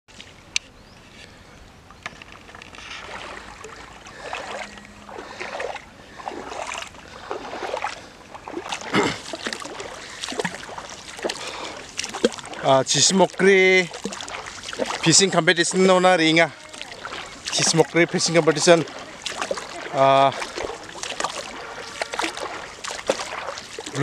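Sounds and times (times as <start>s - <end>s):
river water splashing: 0.1s - 24.0s.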